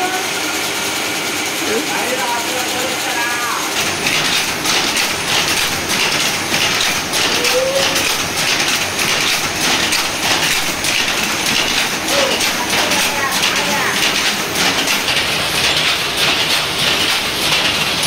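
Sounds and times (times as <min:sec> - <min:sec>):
power loom clattering: 0:00.0 - 0:18.0.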